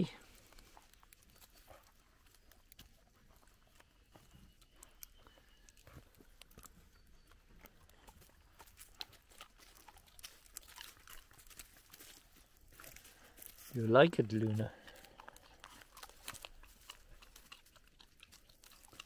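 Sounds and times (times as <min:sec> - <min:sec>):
dog crunching acorns: 0:00.2 - 0:19.0.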